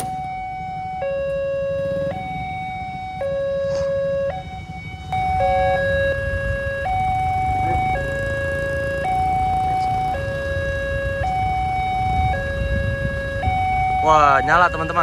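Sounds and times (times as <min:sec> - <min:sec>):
two-tone level crossing alarm: 0:00.0 - 0:15.0.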